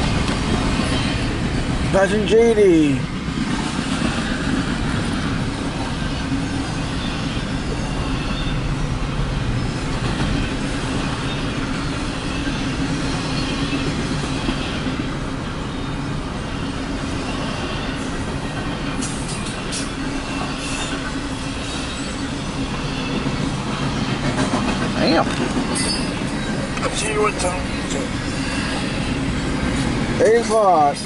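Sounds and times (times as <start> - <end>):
freight train wheels rumbling on rail: 0.0 - 31.0.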